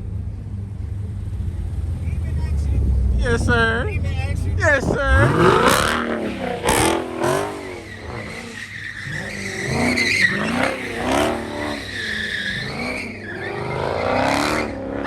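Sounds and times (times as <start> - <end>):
car engine revving: 0.0 - 15.0
tyres squealing: 1.9 - 14.9.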